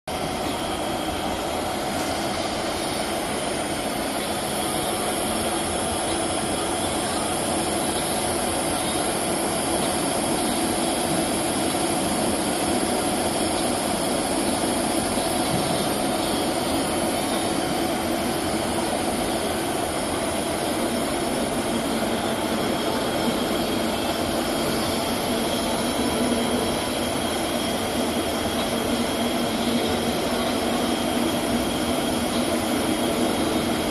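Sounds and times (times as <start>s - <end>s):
milling spindle whine: 0.1s - 33.9s.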